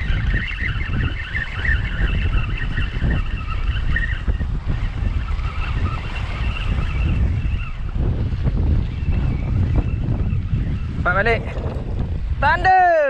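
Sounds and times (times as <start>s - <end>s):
wavering high whirr: 0.0s - 13.0s
wind buffeting microphone: 0.0s - 13.0s.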